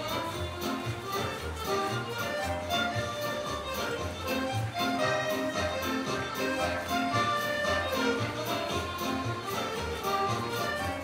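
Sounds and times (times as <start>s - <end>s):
country dance jig music: 0.0s - 11.0s.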